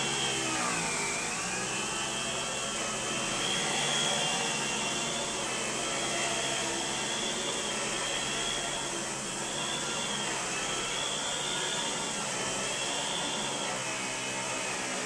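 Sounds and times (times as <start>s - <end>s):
vacuum suction with high whine: 0.0s - 15.0s.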